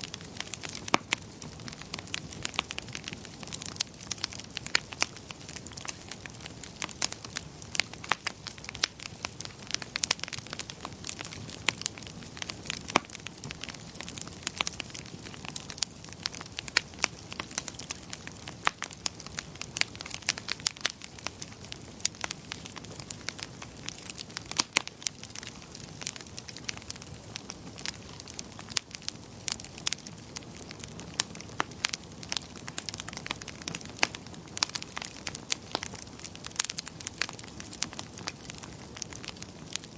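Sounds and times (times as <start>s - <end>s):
soft rush of burning: 0.0s - 39.9s
wood fire crackling: 0.0s - 39.9s.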